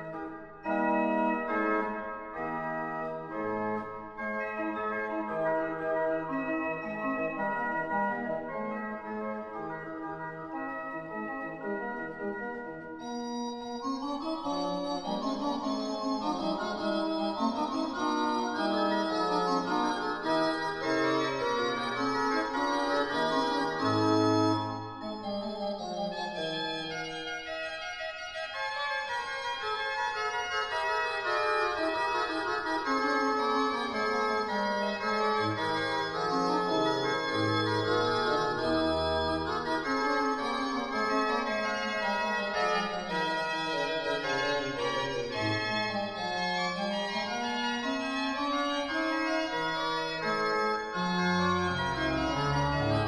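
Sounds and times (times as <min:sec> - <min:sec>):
slow organ music: 0:00.0 - 0:53.0.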